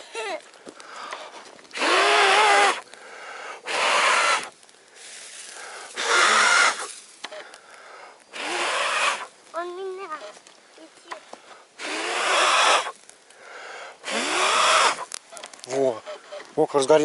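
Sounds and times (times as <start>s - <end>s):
person blowing on campfire: 0.0s - 9.4s, 11.1s - 16.6s.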